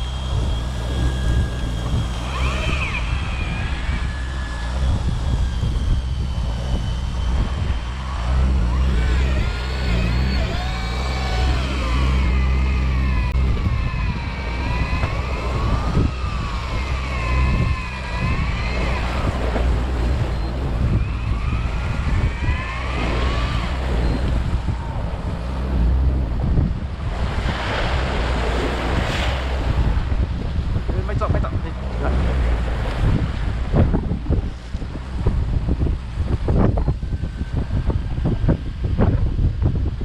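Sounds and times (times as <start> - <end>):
boat engine rumble: 0.0 - 40.0
fishing reel motor whining: 0.0 - 40.0
wind: 0.0 - 40.0.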